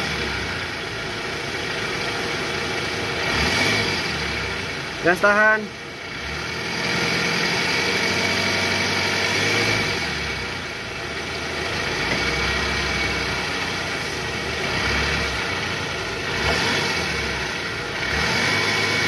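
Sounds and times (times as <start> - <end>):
car engine running smoothly: 0.0 - 19.0.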